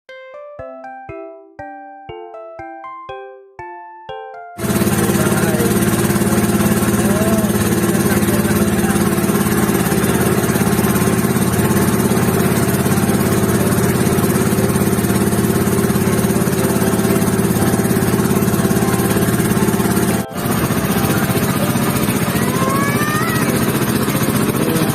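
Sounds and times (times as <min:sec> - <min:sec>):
motorboat engine running: 0:04.6 - 0:24.9.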